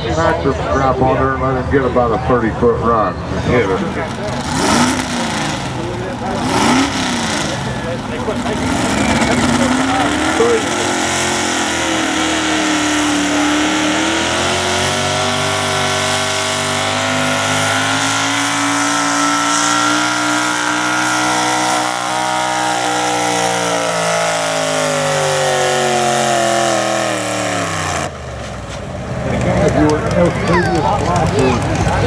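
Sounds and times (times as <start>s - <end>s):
pulling truck engine at high revs: 3.2s - 32.0s.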